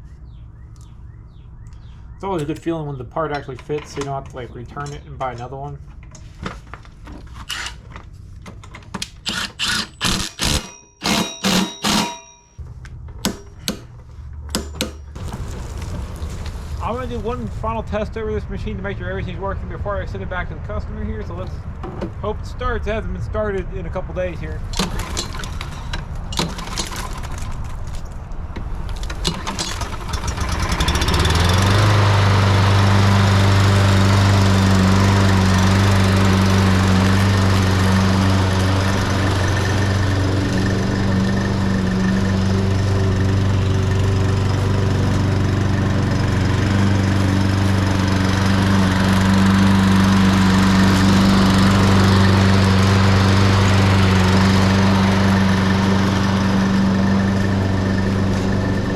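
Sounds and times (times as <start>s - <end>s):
lawn mower engine starting and running: 2.2s - 17.9s, 24.5s - 58.9s.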